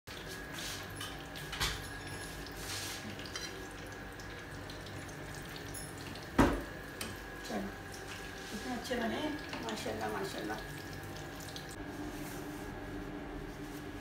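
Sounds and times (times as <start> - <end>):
food sizzling in oil: 0.1 - 11.8.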